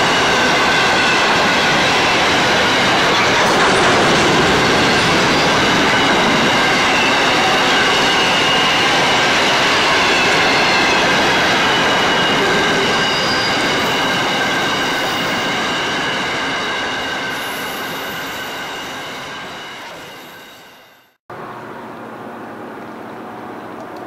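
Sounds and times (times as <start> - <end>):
wheels rumbling on rail: 0.0 - 20.3
wheel squeal: 0.0 - 21.1.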